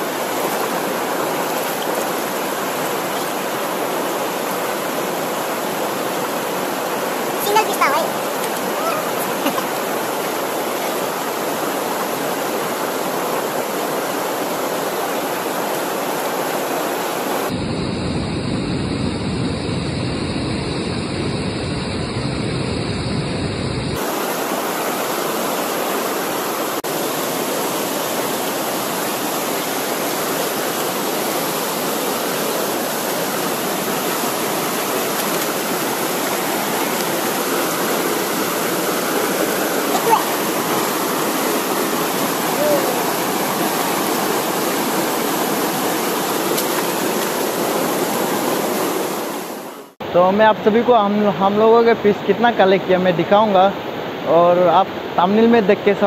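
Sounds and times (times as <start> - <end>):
river rushing over rocks: 0.0 - 17.5, 24.0 - 56.0.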